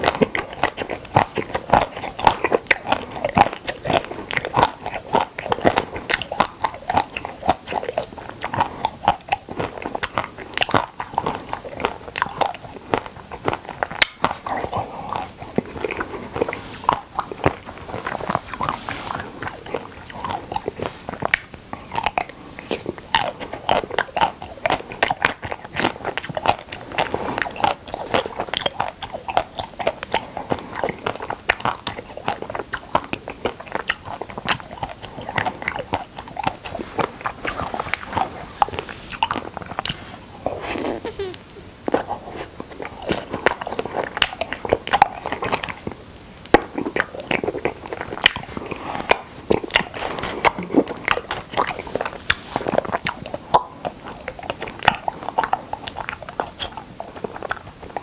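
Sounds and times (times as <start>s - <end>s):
chewing ice cream: 0.0s - 58.0s
crunching ice cream coating: 0.0s - 58.0s.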